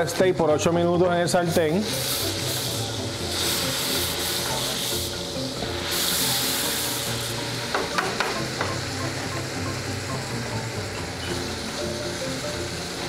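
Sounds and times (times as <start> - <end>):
steak sizzling in a skillet: 1.4 - 13.0.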